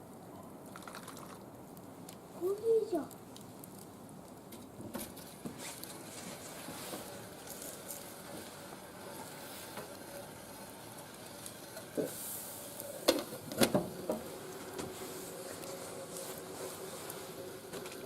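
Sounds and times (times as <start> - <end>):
wood fire hissing and crackling: 0.0 - 18.0.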